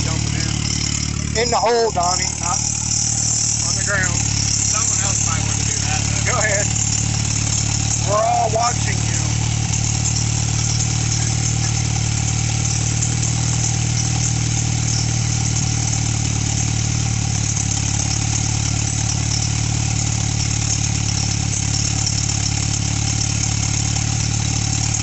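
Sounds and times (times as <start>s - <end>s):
car engine idling without muffler: 0.0s - 25.0s.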